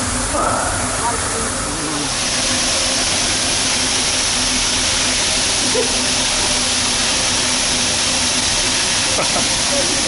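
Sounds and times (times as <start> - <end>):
waterfall hissing: 1.7 - 10.0.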